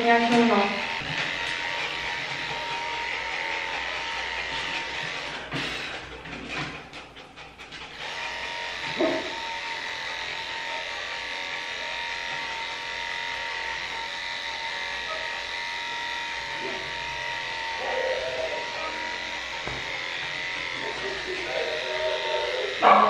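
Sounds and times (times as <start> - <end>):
electric clippers humming: 0.0 - 23.0.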